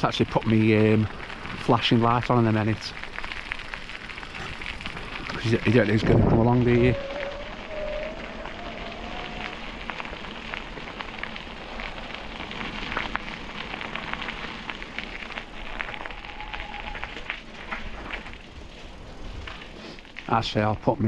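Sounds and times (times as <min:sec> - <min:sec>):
small clicks and ticks: 0:00.0 - 0:20.4
bicycle tyres on path: 0:00.0 - 0:21.0.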